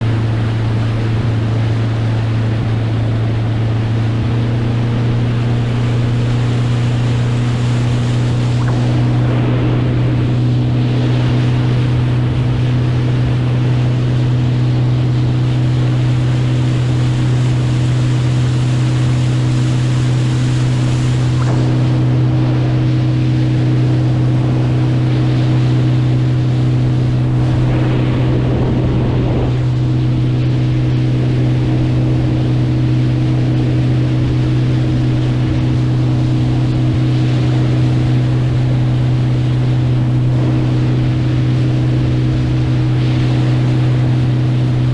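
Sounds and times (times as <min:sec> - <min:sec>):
boat motor humming: 0:00.0 - 0:44.9
rushing water: 0:00.0 - 0:44.9
wind: 0:00.0 - 0:44.9.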